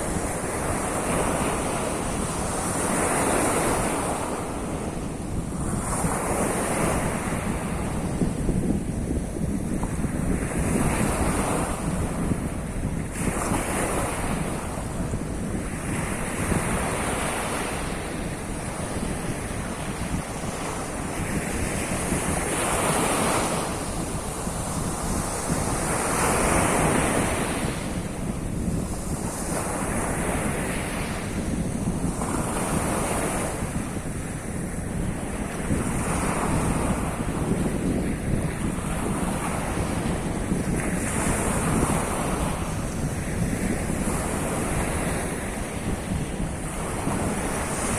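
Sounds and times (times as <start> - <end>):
waves breaking and washing in: 0.0 - 47.9
wind buffeting microphone: 0.0 - 47.9.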